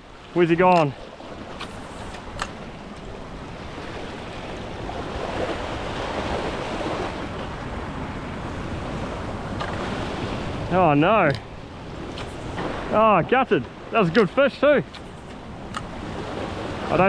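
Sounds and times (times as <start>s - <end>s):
sea waves washing over rock: 0.0s - 17.0s.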